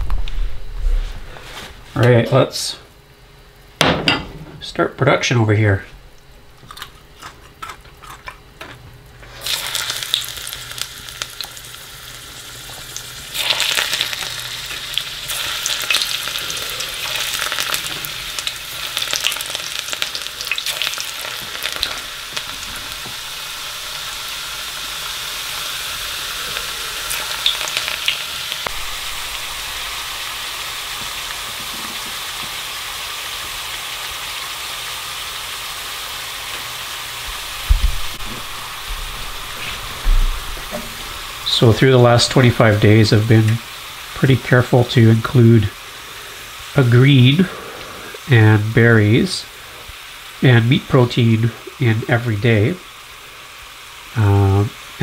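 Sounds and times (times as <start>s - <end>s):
chips sizzling in hot fat: 6.6s - 55.0s.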